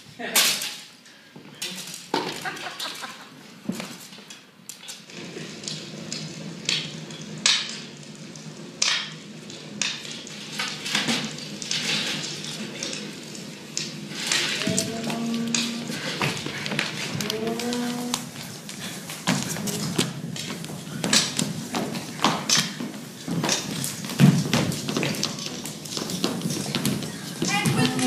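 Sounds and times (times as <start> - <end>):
rustling and crackling: 0.2 - 28.0.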